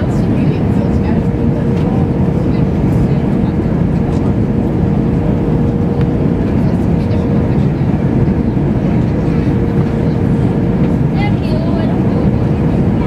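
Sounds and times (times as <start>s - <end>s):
jet engines rumbling: 0.0s - 13.0s
rushing airflow: 0.0s - 13.0s.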